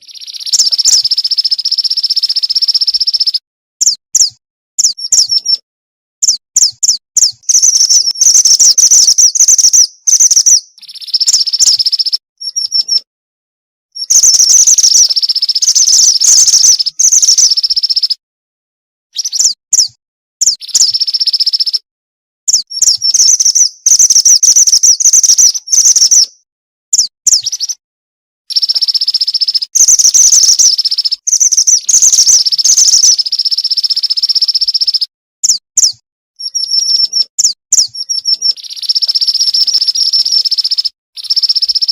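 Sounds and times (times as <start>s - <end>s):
bird rapid high chirps: 0.0s - 5.6s, 6.2s - 13.1s, 14.0s - 18.2s, 19.2s - 21.8s, 22.5s - 27.8s, 28.5s - 41.9s.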